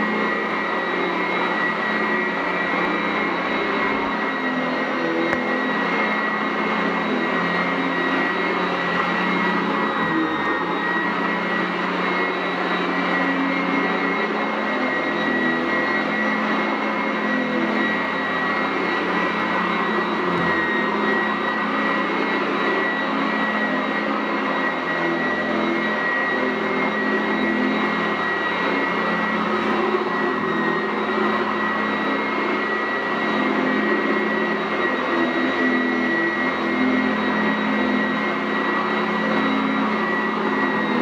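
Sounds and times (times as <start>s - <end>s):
vacuum cleaner running: 0.0s - 41.0s.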